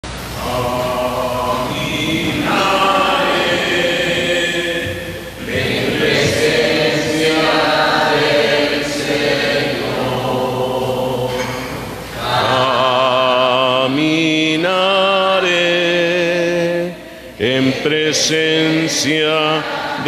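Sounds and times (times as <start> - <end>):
voices singing a hymn: 0.2 - 20.0.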